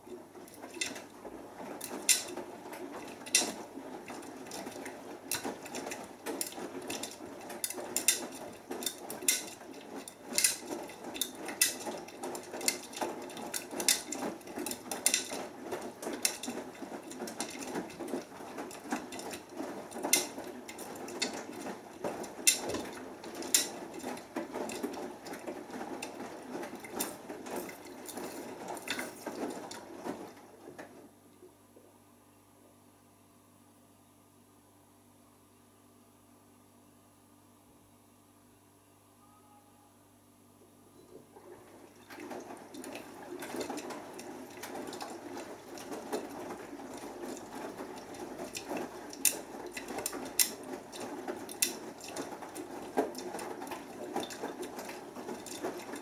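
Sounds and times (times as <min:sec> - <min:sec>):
washing machine drum churning: 0:00.0 - 0:31.3, 0:41.1 - 0:56.0.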